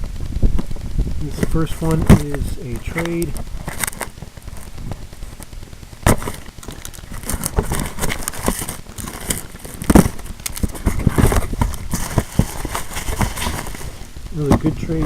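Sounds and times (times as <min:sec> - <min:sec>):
packaging crinkling: 0:01.4 - 0:15.0.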